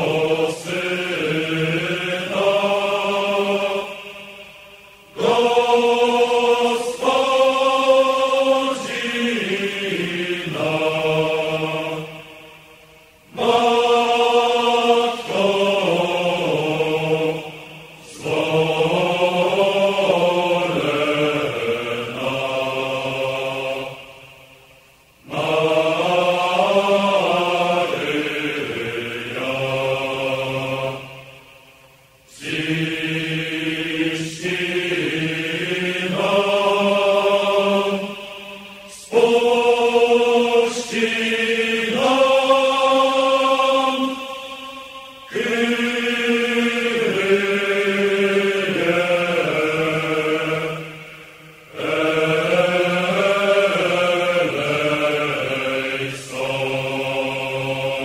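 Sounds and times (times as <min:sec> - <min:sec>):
voices chanting: 0:00.0 - 0:58.0.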